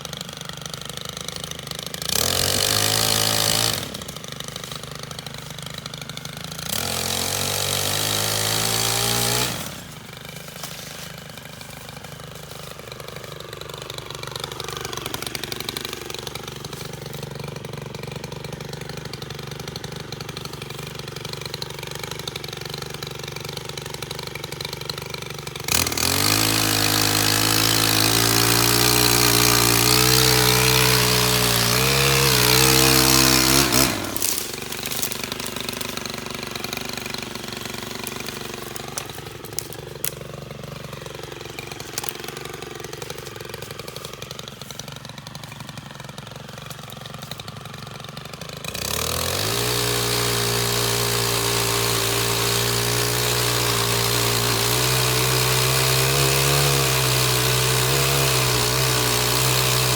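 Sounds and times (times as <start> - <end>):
pole saw engine revving: 0.0 - 59.9.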